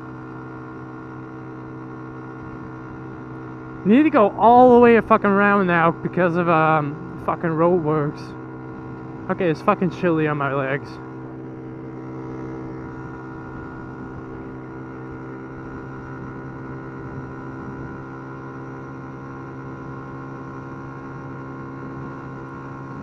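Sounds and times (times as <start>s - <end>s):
steady hum with overtones: 0.0s - 23.0s.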